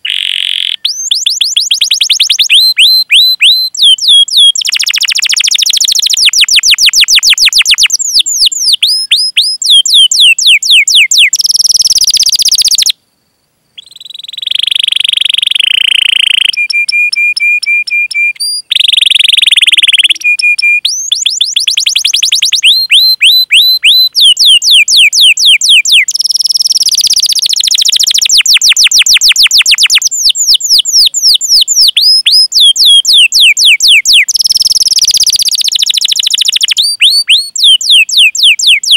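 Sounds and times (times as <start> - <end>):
canary singing: 0.0 - 13.0, 13.8 - 38.9.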